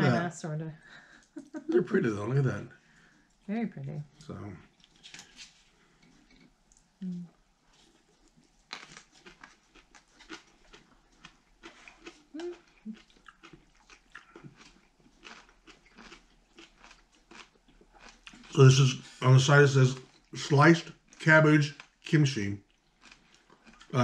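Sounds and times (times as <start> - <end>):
faint crunching chews: 4.2 - 24.0.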